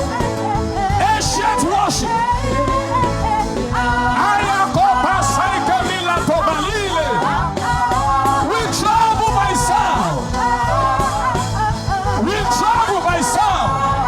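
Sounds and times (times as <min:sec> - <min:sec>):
steady musical accompaniment: 0:00.0 - 0:14.0
voices chanting wordless syllables: 0:00.0 - 0:14.0.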